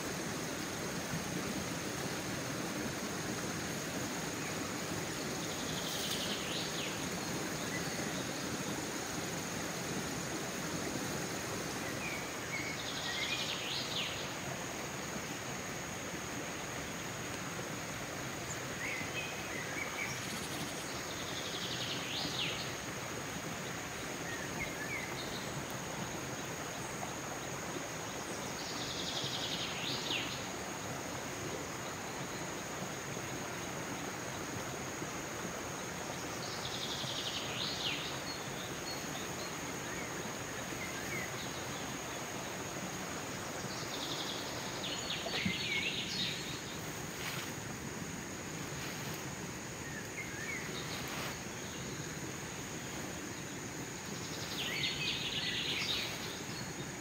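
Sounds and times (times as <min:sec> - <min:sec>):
buzzing insect call: 0:00.0 - 0:57.0
high insect drone: 0:00.0 - 0:57.0
stream water running: 0:00.0 - 0:57.0.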